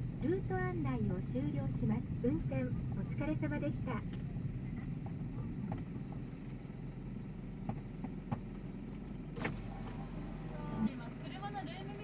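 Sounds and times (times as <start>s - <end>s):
vehicle cabin hum: 0.0s - 12.0s.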